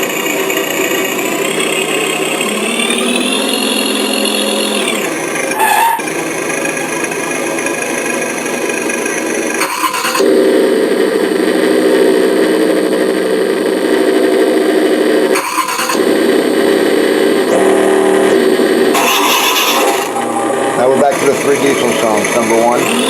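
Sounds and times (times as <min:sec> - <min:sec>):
simulated engine sound from speaker: 0:00.0 - 0:23.0.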